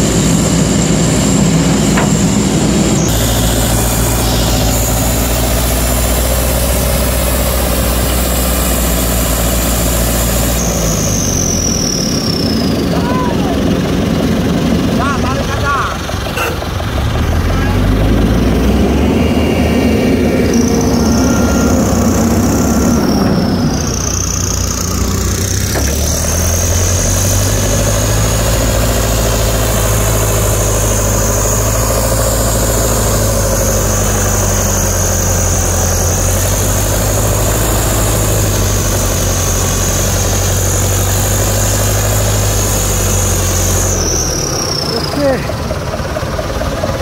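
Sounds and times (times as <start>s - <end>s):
high thin whine: 0.0s - 13.6s, 18.4s - 45.5s
diesel engines running under load: 0.0s - 47.0s.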